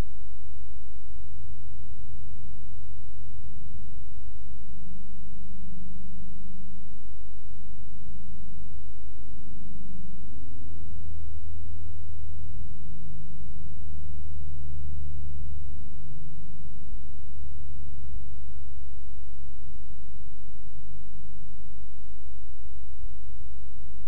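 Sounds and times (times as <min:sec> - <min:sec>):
faint wavering hum: 0:00.0 - 0:24.0.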